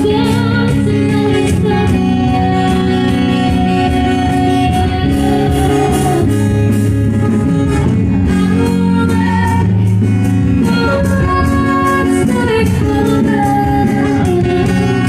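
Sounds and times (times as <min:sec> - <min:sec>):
singing over guitar: 0:00.0 - 0:15.0.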